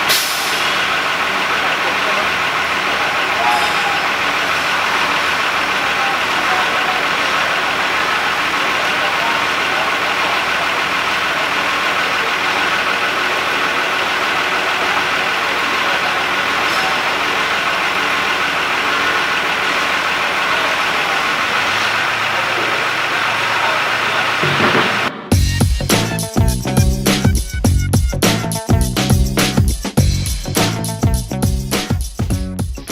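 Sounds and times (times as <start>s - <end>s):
crane engine running: 0.0s - 31.1s.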